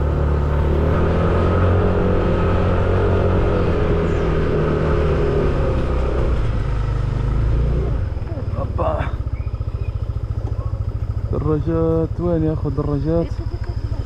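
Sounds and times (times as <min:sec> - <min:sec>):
motorcycle engine under load: 0:00.0 - 0:14.0.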